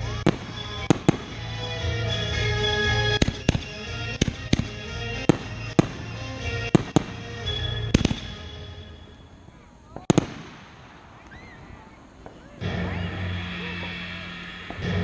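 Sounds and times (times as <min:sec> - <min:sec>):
music playing: 0:00.0 - 0:09.9, 0:12.5 - 0:15.0
fireworks bangs: 0:00.0 - 0:15.0.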